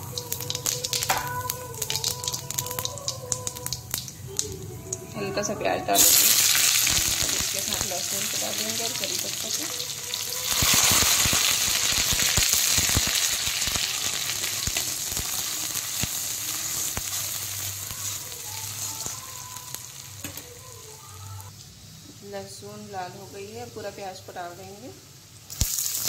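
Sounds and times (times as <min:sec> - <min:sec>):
spices sizzling in hot oil: 0:00.0 - 0:05.0, 0:05.9 - 0:26.0.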